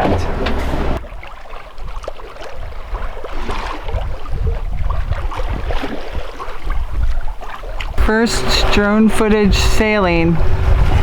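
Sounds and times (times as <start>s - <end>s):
water splashing along hull: 0.0s - 11.0s
wind on microphone: 0.0s - 11.0s.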